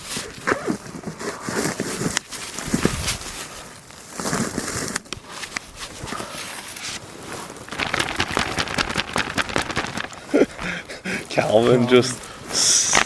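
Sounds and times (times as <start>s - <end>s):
gear clicking and rustling: 0.1s - 13.0s.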